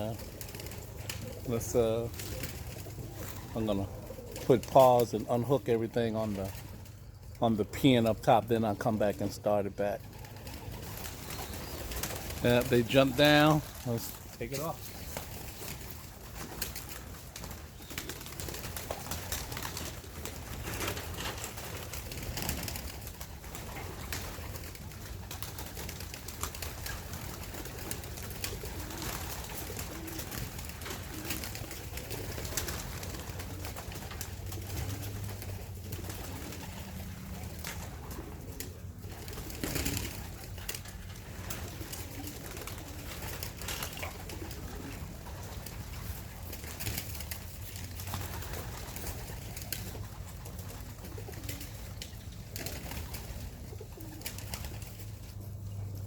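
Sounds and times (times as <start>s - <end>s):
pigeons cooing: 0.0s - 56.0s.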